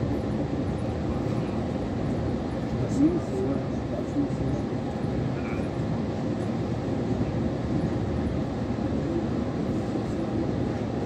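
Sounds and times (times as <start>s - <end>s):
train running noise from inside: 0.0s - 11.0s.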